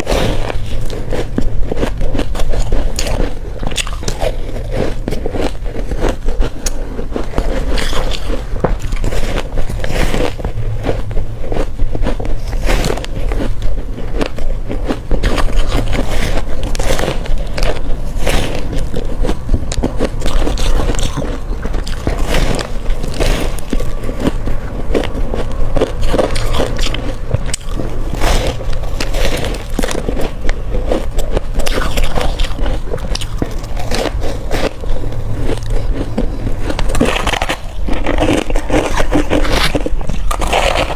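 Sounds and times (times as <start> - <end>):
crunching ice in mouth: 0.0 - 40.9.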